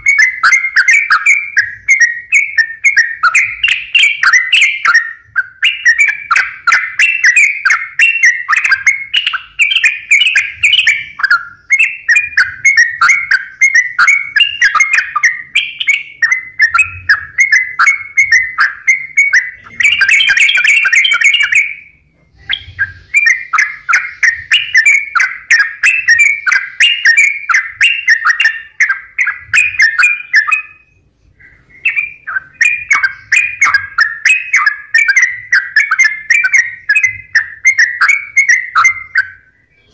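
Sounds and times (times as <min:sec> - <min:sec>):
bird song chattering: 0:00.0 - 0:39.9.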